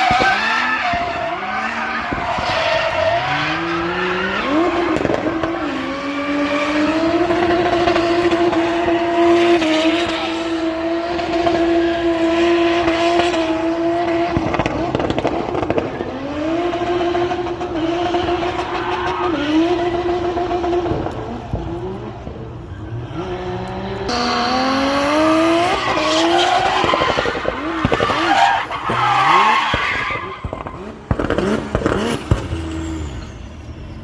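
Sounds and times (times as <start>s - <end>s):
tyres squealing and skidding: 0.0s - 12.6s, 13.5s - 20.8s, 21.8s - 34.0s
car engine revving hard: 0.0s - 22.3s, 23.1s - 33.0s.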